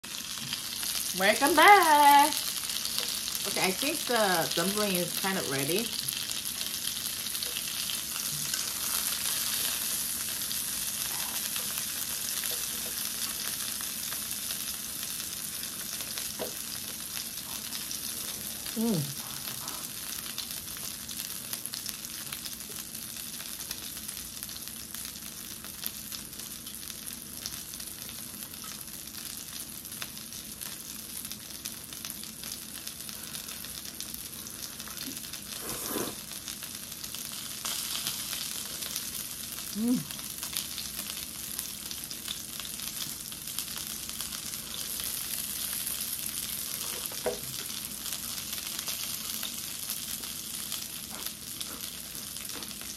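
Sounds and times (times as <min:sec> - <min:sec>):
dumplings sizzling in oil: 0:00.1 - 0:52.9.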